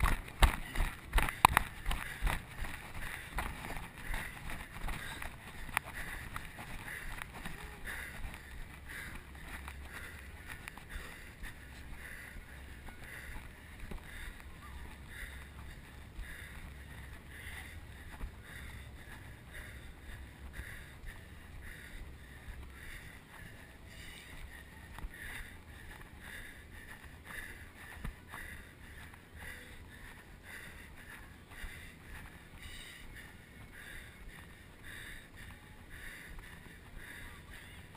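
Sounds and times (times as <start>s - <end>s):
muffled running movement rumble: 0.0s - 37.9s.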